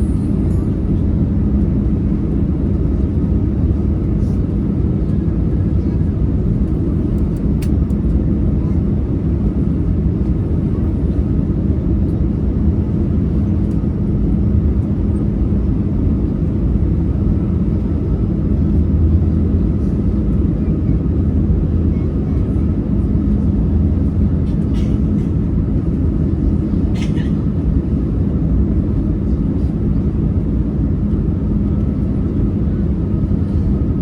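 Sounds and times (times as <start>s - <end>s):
aircraft cabin engine rumble: 0.0s - 34.0s
constant hum: 0.0s - 34.0s.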